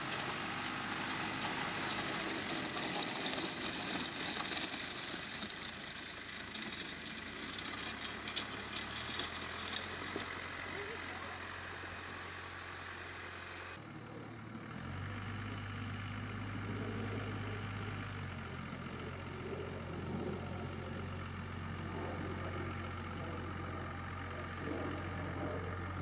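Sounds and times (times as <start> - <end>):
tractor engine running: 0.0 - 26.0
truck engine humming: 0.0 - 26.0.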